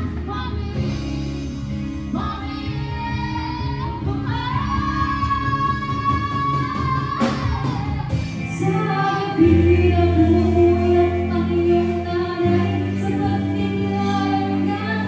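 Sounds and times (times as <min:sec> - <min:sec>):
woman singing: 0:00.0 - 0:01.4, 0:02.1 - 0:15.0
live band playing: 0:00.0 - 0:15.0
sustained bass notes: 0:00.0 - 0:15.0.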